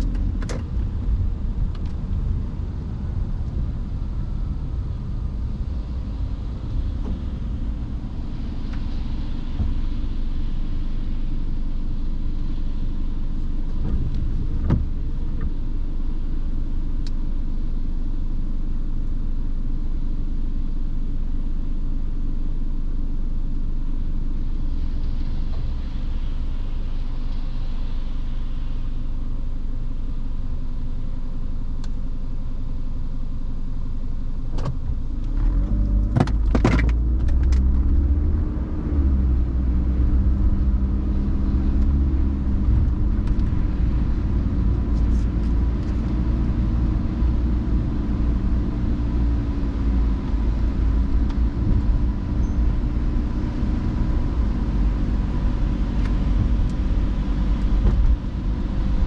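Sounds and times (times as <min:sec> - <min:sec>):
car engine: 0:00.0 - 0:59.0.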